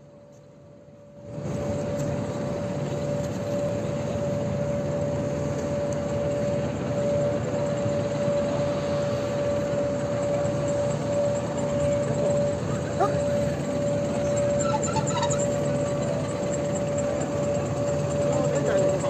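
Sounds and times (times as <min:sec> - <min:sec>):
mid-pitched whine: 0:00.0 - 0:19.0
machinery rushing drone: 0:01.2 - 0:19.0.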